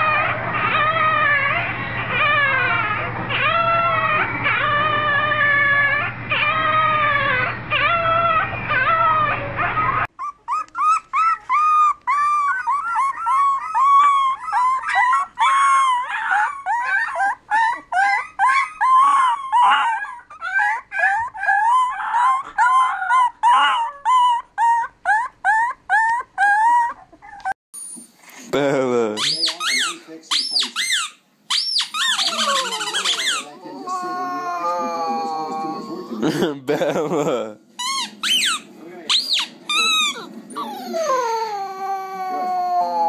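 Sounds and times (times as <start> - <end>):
puppy howling: 0.0 - 27.6, 31.8 - 36.4, 37.8 - 43.0
puppies whimpering yips: 0.0 - 28.1, 29.2 - 36.2, 37.8 - 43.0.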